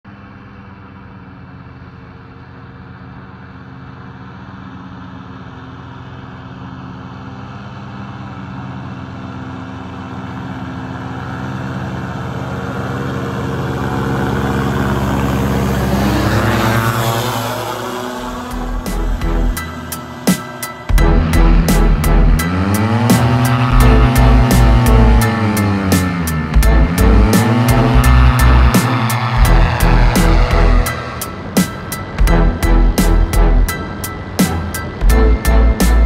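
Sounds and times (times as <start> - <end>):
paramotor engine and propeller: 0.0 - 36.0.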